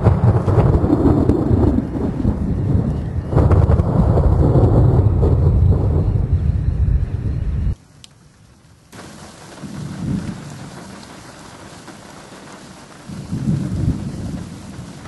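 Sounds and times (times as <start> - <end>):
low thunder rumble: 0.0 - 7.8, 9.0 - 15.0
steady rain hiss: 0.0 - 15.0.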